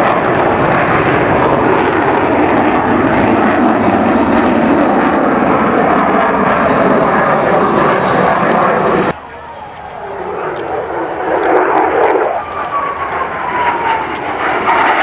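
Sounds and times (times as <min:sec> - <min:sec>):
aircraft engine in flight: 0:00.0 - 0:15.0.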